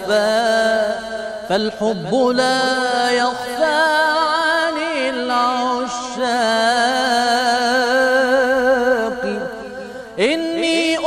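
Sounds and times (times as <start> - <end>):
man singing melisma: 0.0 - 11.0.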